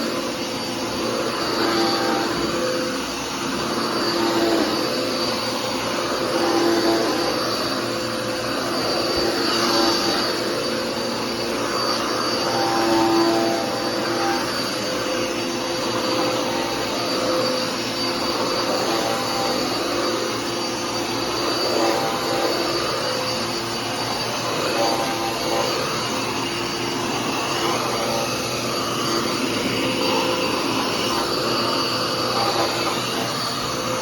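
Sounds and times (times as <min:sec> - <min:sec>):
upright vacuum cleaner running: 0:00.0 - 0:34.0.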